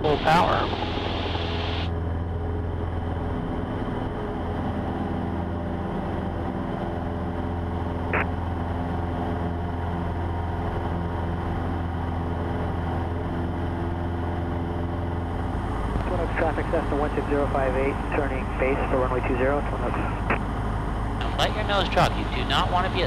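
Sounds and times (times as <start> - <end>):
light aircraft engine drone: 0.0 - 23.0.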